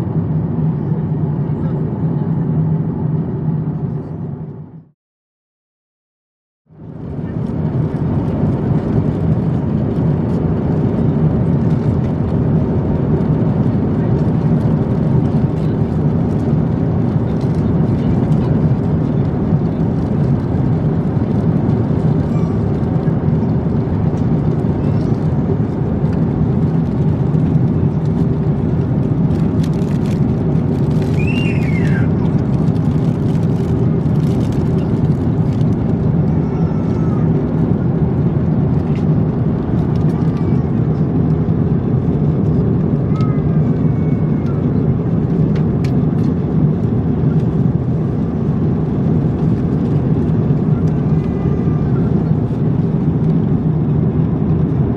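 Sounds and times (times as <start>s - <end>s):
airplane cabin engine rumble: 0.0s - 5.0s, 6.7s - 54.9s.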